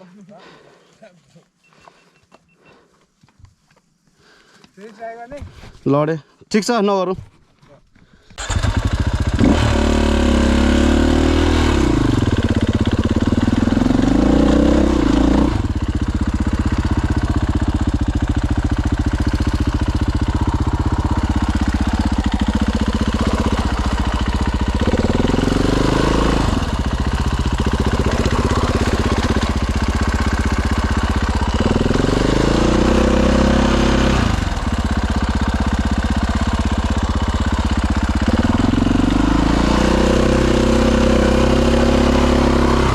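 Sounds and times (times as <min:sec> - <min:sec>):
dirt bike engine revving: 0:08.4 - 0:42.9.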